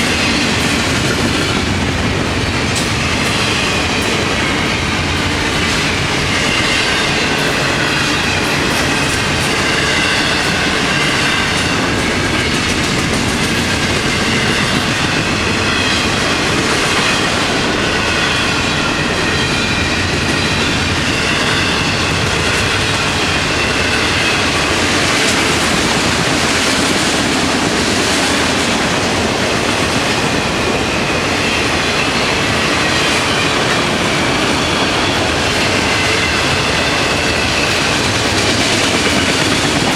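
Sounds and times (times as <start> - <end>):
clickety-clack over rail joints: 0.0 - 39.9
train wheels rumbling on rails: 0.0 - 39.9.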